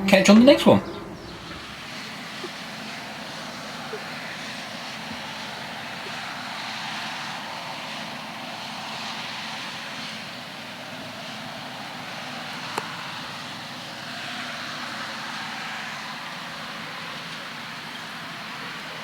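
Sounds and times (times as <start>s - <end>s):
combine harvester running: 0.0s - 18.9s.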